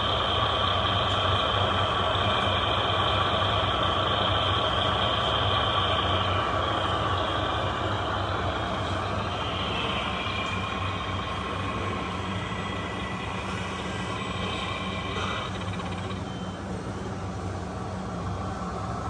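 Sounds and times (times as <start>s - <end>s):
model trucks motor whine: 0.0s - 19.0s.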